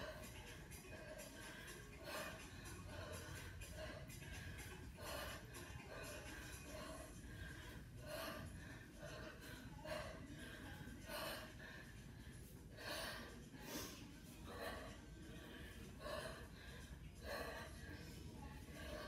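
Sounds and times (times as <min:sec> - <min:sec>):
woman breathing hard: 0:00.0 - 0:19.0.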